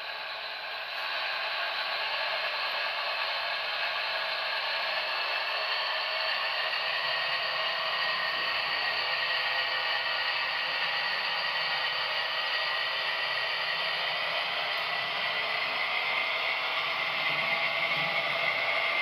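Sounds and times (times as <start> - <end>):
model train whirring on rails: 0.0 - 19.0.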